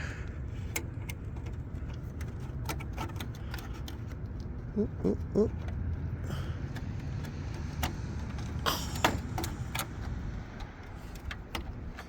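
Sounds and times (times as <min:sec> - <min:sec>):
sharp clicks and light knocks: 0:00.0 - 0:04.7, 0:05.5 - 0:12.0.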